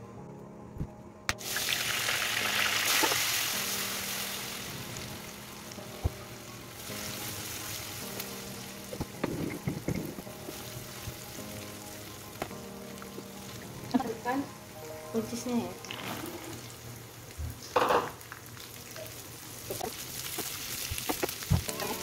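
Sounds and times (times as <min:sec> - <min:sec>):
spice paste sizzling in hot oil: 0:01.3 - 0:15.8, 0:18.2 - 0:22.0.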